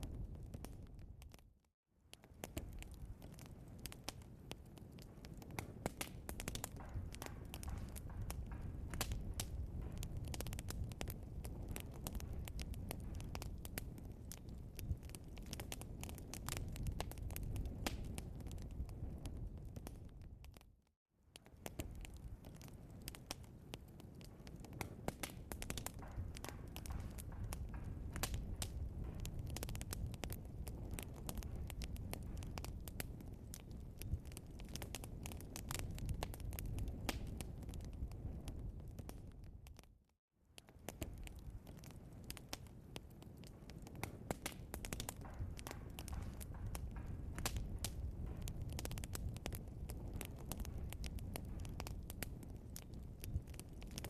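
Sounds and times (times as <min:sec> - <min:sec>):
log crackling and popping: 0:00.0 - 0:54.0
low rumble of flames: 0:00.0 - 0:54.0.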